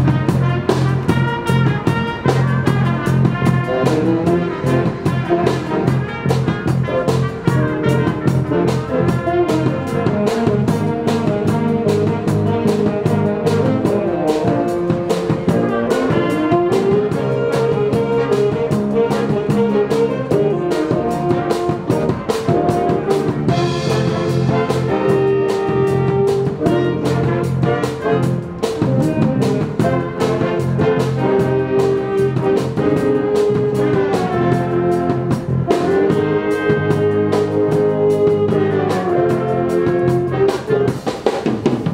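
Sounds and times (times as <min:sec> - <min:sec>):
electric bass: 0:00.0 - 0:41.1
drum kit steady beat: 0:00.0 - 0:41.9
horns playing jazz tune: 0:00.0 - 0:41.9.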